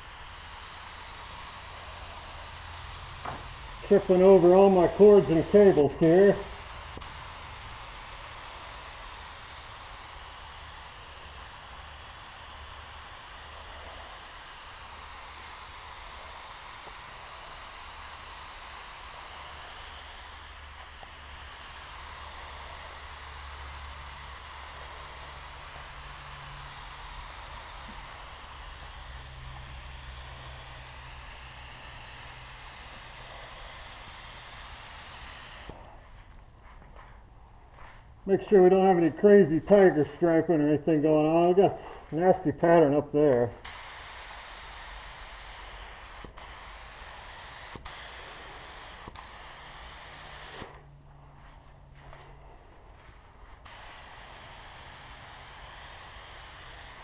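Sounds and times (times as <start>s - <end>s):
paint spray gun hissing: 0.0s - 36.4s, 38.4s - 52.4s, 53.0s - 57.0s.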